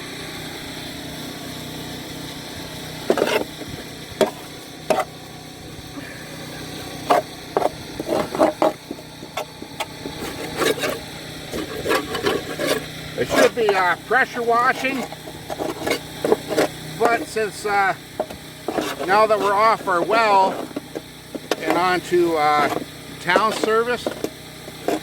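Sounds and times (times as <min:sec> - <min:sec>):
steady low hum: 0:00.0 - 0:25.0
hand tool scraping mower deck: 0:02.9 - 0:25.0.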